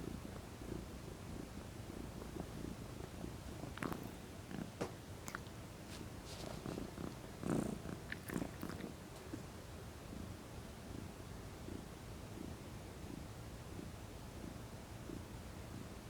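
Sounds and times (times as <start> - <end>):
cat purring: 0.0 - 15.8.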